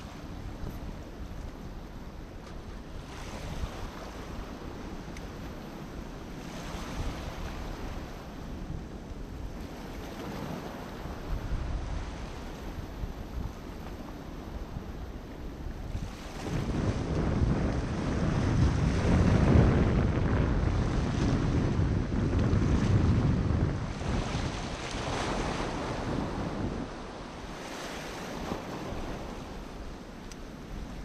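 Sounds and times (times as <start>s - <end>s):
surf washing over rocks: 0.0s - 31.0s
wind buffeting microphone: 0.0s - 31.0s.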